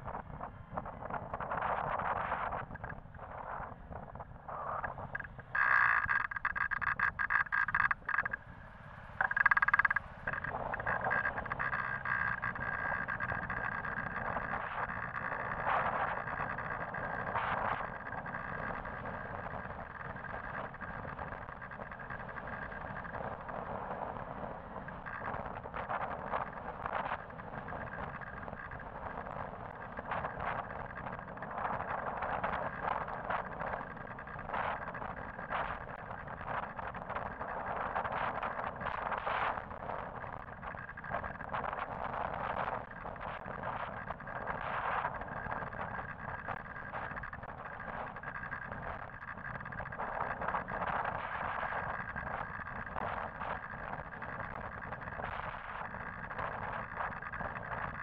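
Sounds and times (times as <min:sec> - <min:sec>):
road traffic noise: 0:02.6 - 0:58.0
loud crackling bursts: 0:04.4 - 0:08.4, 0:09.2 - 0:23.9, 0:24.9 - 0:58.0.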